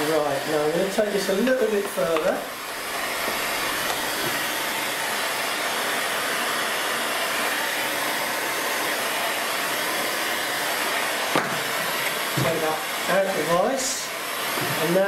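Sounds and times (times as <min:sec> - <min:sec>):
hot air gun blowing: 0:00.0 - 0:15.0.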